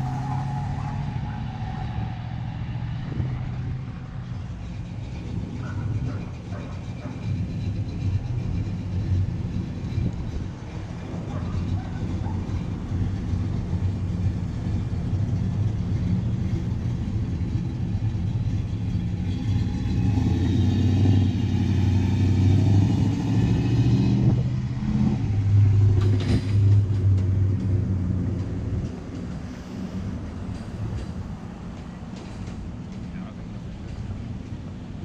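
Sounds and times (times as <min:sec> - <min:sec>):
cars driving slowly past: 0:00.0 - 0:35.0.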